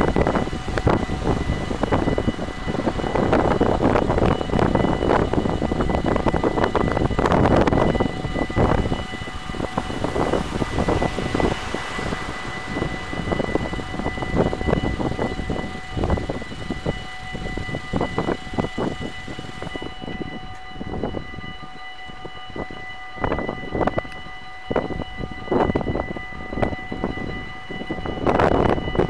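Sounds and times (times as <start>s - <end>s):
level crossing warning bells: 0.0s - 29.0s
wind buffeting microphone: 0.0s - 29.0s.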